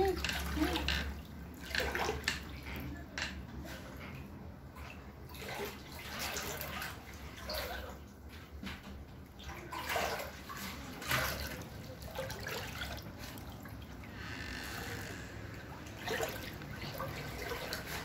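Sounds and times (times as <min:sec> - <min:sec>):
water splashing while wading: 0:00.0 - 0:02.8, 0:03.6 - 0:08.6, 0:09.2 - 0:18.0.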